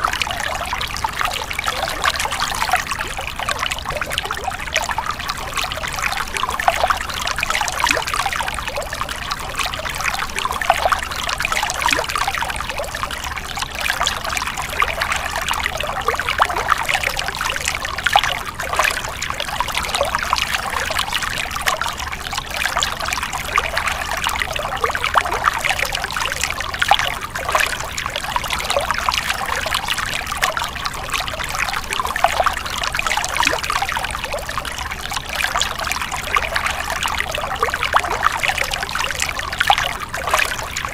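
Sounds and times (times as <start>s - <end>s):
stream splashing over stones: 0.0s - 40.9s.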